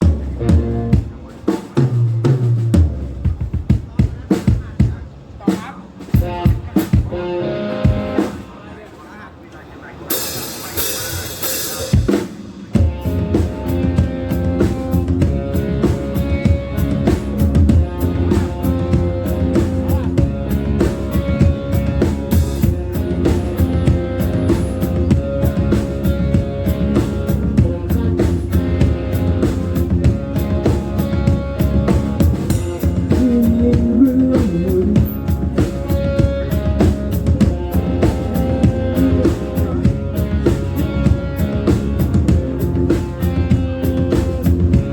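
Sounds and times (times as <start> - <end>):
loud music with drums and bass: 0.0 - 8.6, 10.1 - 44.9.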